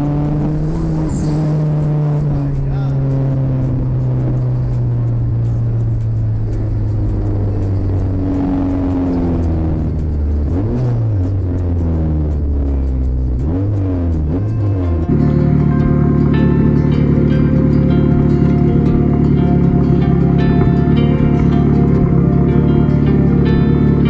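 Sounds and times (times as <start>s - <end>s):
car engine slowing down: 0.0s - 24.0s.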